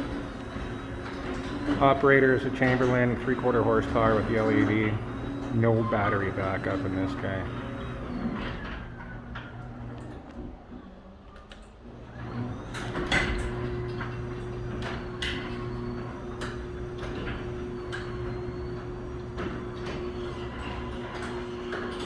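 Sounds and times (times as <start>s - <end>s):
garage door opener humming: 0.0s - 22.0s.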